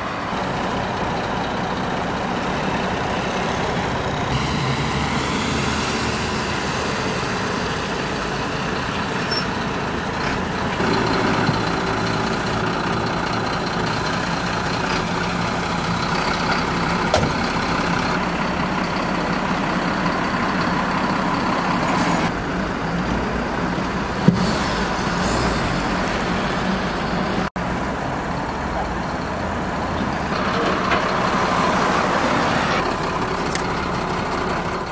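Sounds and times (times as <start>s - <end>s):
truck engine running: 0.0s - 34.9s.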